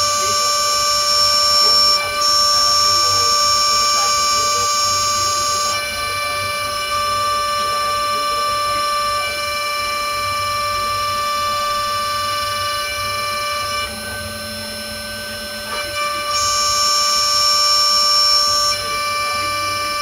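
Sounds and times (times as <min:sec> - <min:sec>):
cnc spindle whining: 0:00.0 - 0:20.0.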